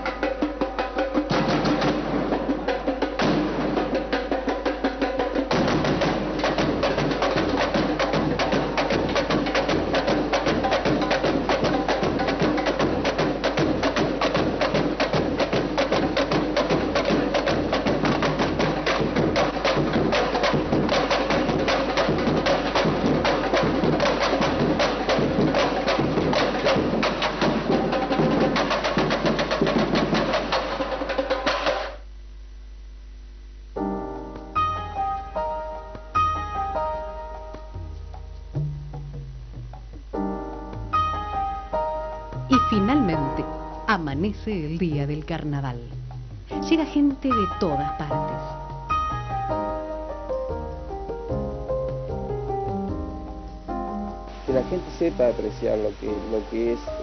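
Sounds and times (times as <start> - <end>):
samba percussion drumming: 0.0 - 32.1, 34.3 - 57.0.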